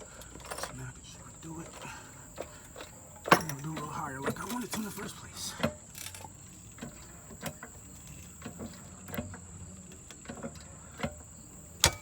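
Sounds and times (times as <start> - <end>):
floor jack pumping clicks: 0.0 - 12.0.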